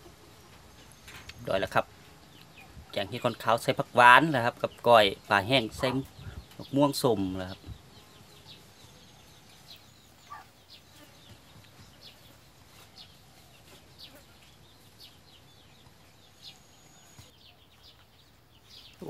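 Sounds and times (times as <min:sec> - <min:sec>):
faint high bird chirps: 0:02.4 - 0:19.0.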